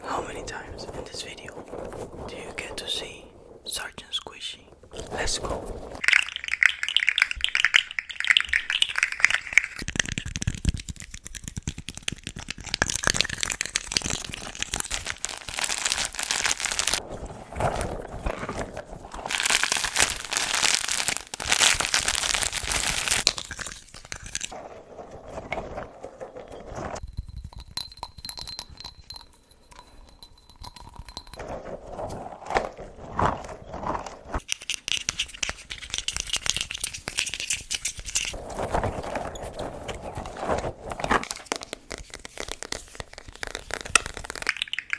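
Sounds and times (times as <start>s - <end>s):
close crinkling and crackling: 0.0s - 27.1s, 30.7s - 44.9s.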